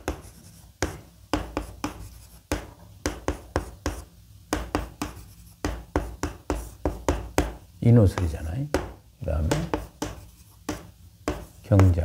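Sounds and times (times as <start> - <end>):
chalk tapping and scratching: 0.0 - 12.0.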